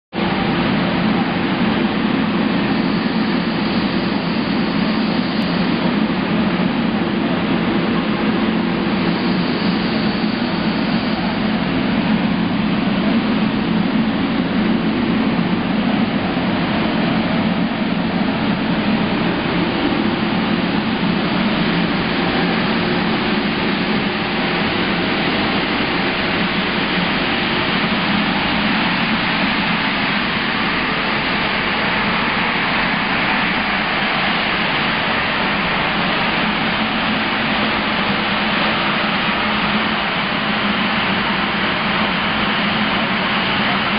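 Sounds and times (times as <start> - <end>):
loud machine noise: 0.2 - 43.9
low hum: 0.2 - 43.9.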